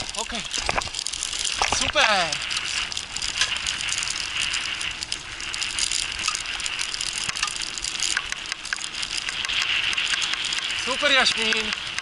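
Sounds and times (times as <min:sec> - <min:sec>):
bike chain rattling: 0:00.0 - 0:12.0
bike tyres on dirt: 0:00.0 - 0:12.0.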